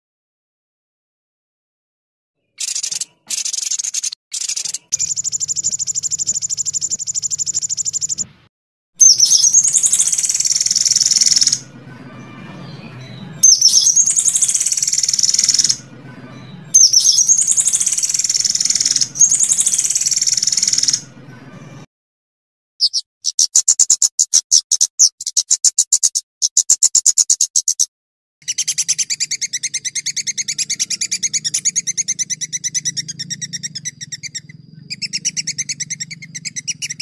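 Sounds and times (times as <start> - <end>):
songbird trilling song: 2.4 - 8.3, 9.0 - 21.8, 22.8 - 37.0.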